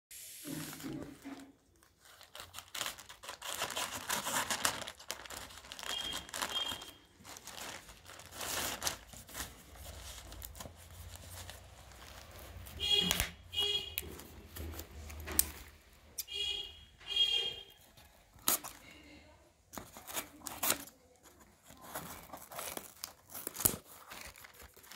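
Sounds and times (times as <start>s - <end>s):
plastic mailer bag crinkling: 0.4s - 15.9s, 17.4s - 24.9s
scissors cutting plastic: 0.8s - 16.3s, 17.7s - 19.0s, 19.7s - 24.9s.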